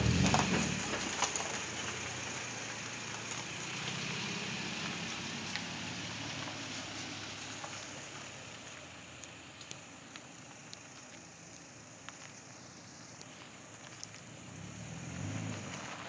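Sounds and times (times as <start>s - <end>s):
low exhaust rumble: 0.0s - 16.0s.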